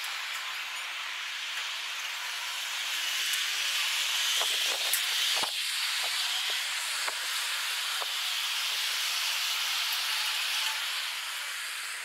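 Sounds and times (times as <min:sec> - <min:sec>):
high-pitched outdoor hiss: 0:00.0 - 0:12.0.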